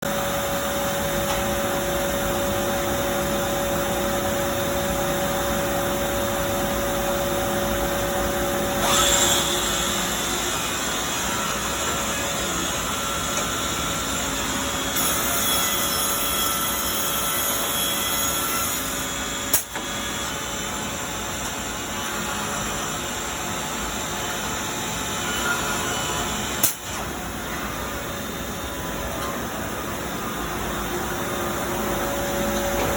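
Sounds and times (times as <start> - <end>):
cnc machine running: 0.1 - 32.9
high machine whine: 0.1 - 32.9.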